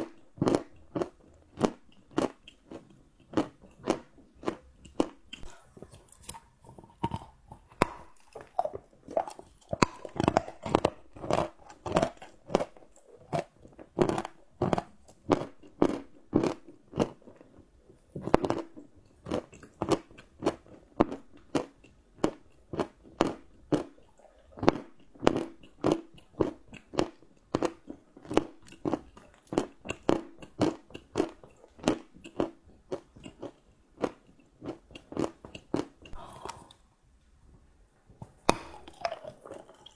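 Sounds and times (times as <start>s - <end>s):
chewing crunchy chocolate: 0.0s - 36.9s, 38.2s - 39.9s.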